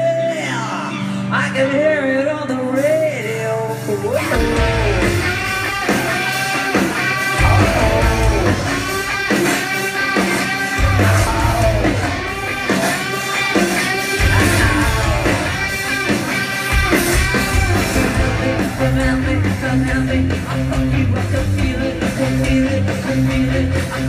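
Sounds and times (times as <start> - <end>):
electric guitar: 0.0 - 24.0
live rock band playing: 0.0 - 24.0.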